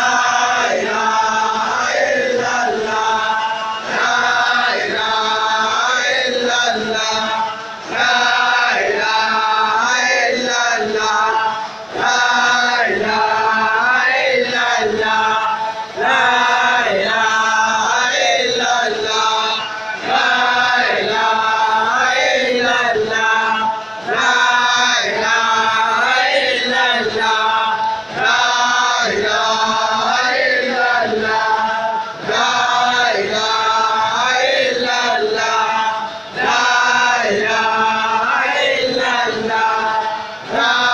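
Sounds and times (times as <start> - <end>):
men chanting in unison: 0.0 - 40.9.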